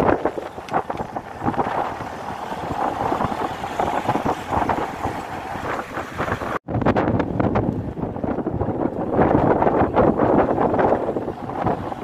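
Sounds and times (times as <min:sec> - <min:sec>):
low rumble of vehicle: 0:00.0 - 0:12.0
wind buffeting microphone: 0:00.0 - 0:12.0.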